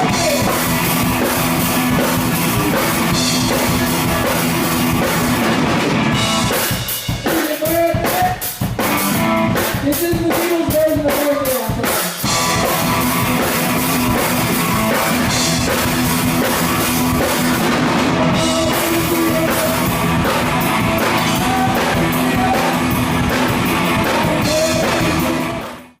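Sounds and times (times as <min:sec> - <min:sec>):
electric guitar: 0:00.0 - 0:07.3, 0:08.0 - 0:11.1, 0:12.2 - 0:26.0
drum kit: 0:00.0 - 0:26.0
live rock band playing: 0:00.0 - 0:26.0.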